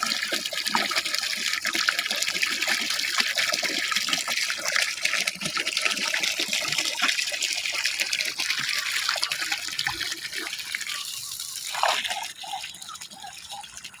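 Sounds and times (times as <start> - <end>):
ducks dabbling and pecking feed: 0.0 - 14.0.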